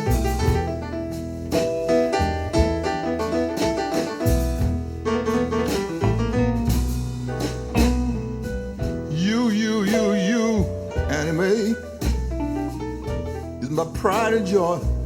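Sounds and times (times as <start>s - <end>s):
blues piano with bass and drums: 0.0s - 15.0s.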